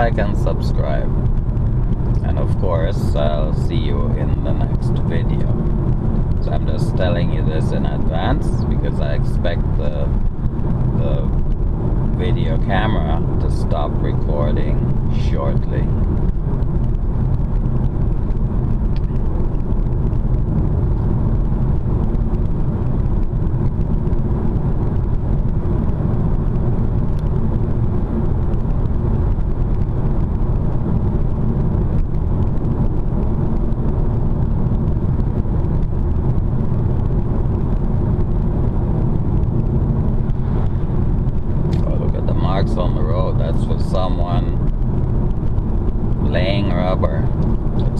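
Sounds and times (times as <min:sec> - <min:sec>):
road and tyre noise in car: 0:00.0 - 0:47.9.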